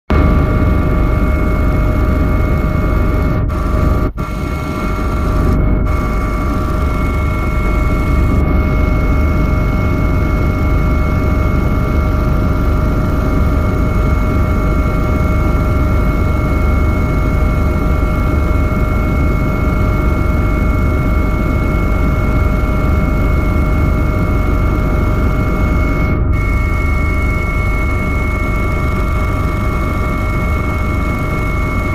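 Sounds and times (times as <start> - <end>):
mechanical drone with whining tones: 0.1 - 31.9.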